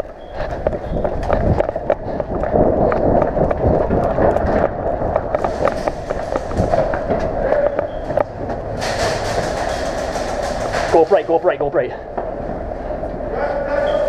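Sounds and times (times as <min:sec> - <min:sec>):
gear rattling: 0:00.0 - 0:12.0
running footsteps: 0:00.0 - 0:14.0.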